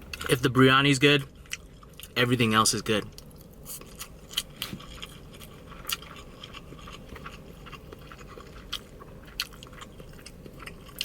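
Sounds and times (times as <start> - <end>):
chewing with wet clicks and smacks: 0.0 - 11.0.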